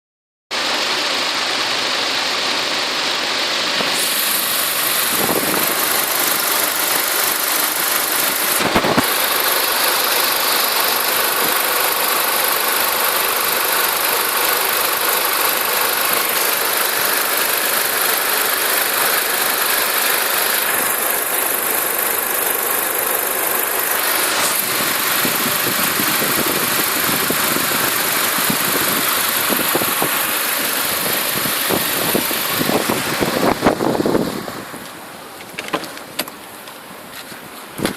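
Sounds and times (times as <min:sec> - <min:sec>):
car engine idling: 0:00.6 - 0:37.8.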